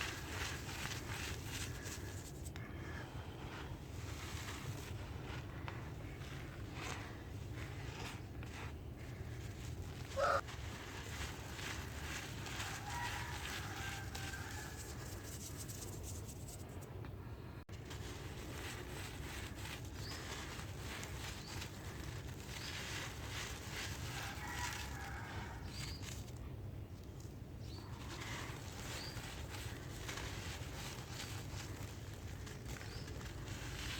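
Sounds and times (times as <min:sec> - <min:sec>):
dry dirt crunching: 0:00.0 - 0:16.8, 0:17.7 - 0:33.9.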